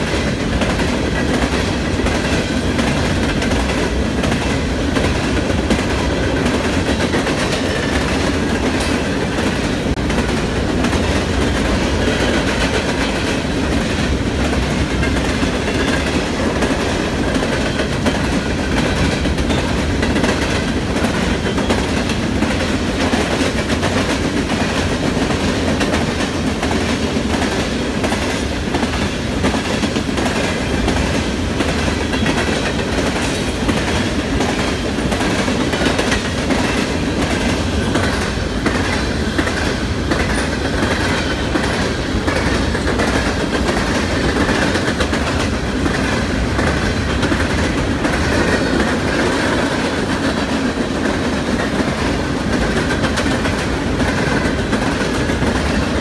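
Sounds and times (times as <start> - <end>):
freight train rumbling: 0.0 - 56.0
wheels clicking over rail joints: 0.0 - 56.0.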